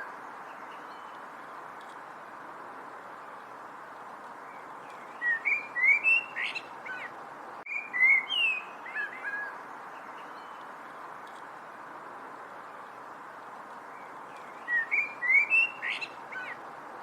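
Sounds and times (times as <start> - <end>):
songbird singing: 0.0 - 17.0
steady background hiss: 0.0 - 17.0.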